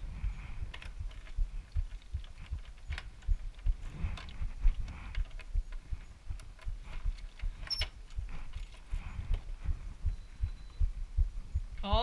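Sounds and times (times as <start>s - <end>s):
low dull thumps: 0.0s - 12.0s.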